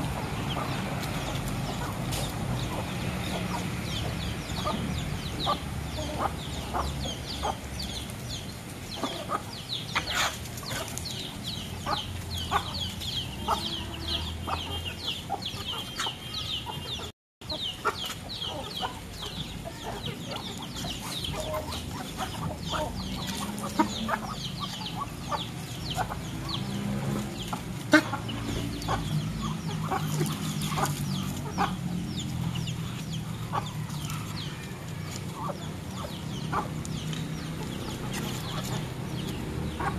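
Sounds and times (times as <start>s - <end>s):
chicks cheeping: 0.0s - 39.9s
hens clucking: 0.0s - 39.9s.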